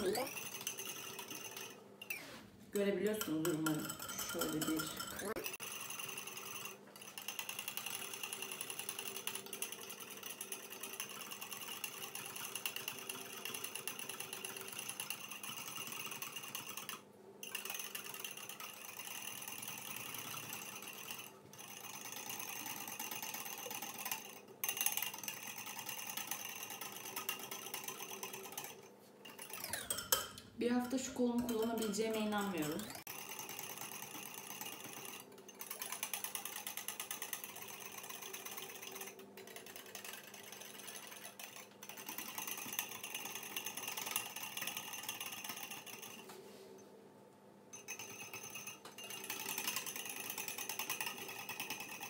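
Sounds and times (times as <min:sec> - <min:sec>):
metal spoon whisking in ceramic bowl: 0:00.0 - 0:46.4, 0:47.7 - 0:52.0.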